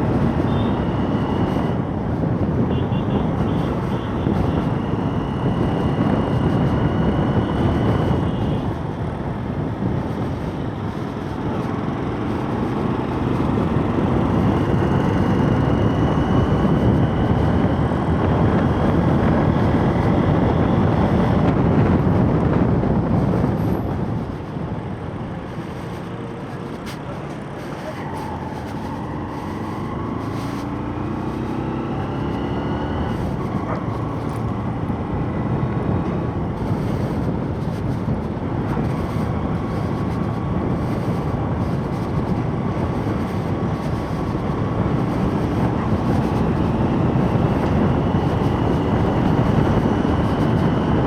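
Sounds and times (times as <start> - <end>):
motorcycle engine and road noise: 0.0 - 51.0
wind rush on microphone: 0.0 - 51.0.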